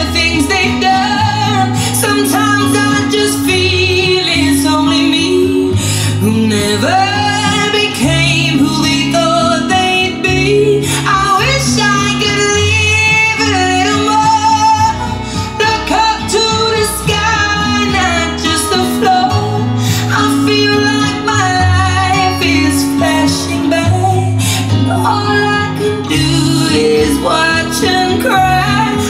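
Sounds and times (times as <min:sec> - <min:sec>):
band accompaniment with bass: 0:00.0 - 0:29.0
woman singing: 0:00.0 - 0:29.0.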